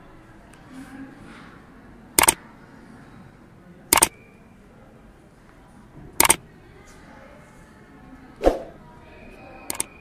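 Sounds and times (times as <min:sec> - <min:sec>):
faint steady background noise: 0:00.0 - 0:10.0.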